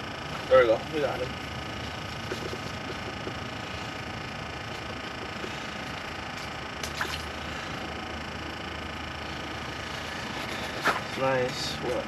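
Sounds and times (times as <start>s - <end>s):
steady electric hum: 0.0s - 12.0s.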